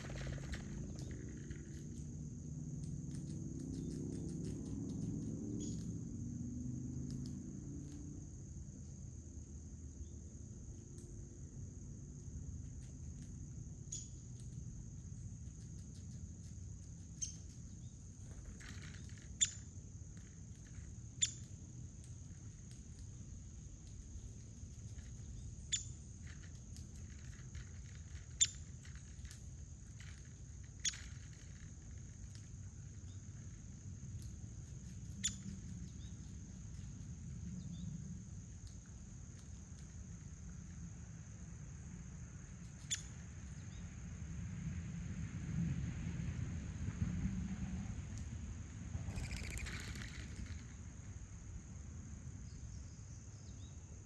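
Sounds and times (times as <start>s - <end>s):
insects chirping: 0.0s - 54.0s
low outdoor rumble: 0.0s - 54.0s.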